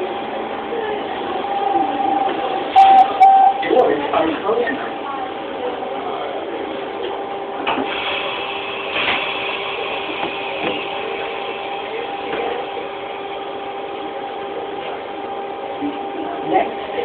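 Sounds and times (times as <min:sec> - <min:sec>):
subway car two-tone hum: 0:00.0 - 0:17.0
train running noise: 0:00.0 - 0:17.0.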